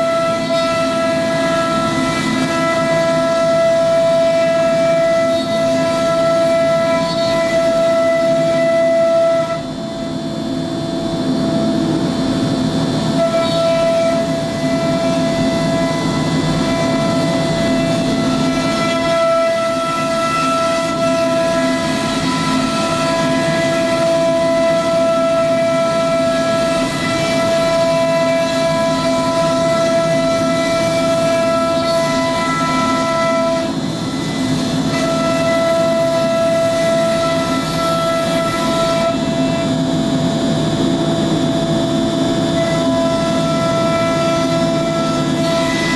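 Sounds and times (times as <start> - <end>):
router spindle high whine: 0.0 - 45.9.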